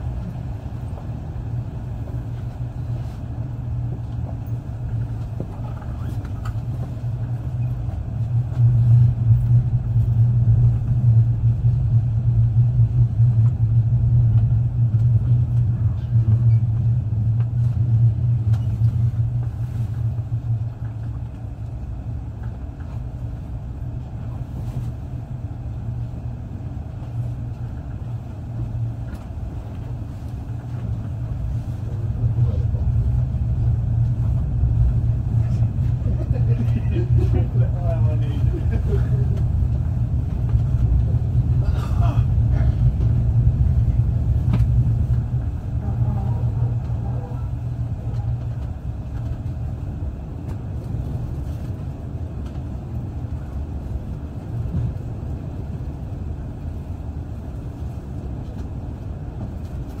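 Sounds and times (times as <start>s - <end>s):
train running rumble: 0.0s - 60.0s.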